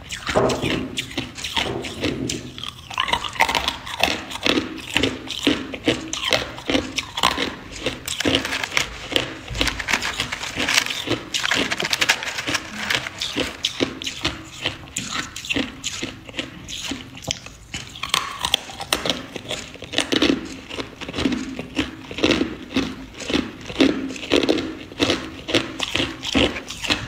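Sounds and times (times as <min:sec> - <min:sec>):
ice crunching between teeth: 0:00.1 - 0:27.0.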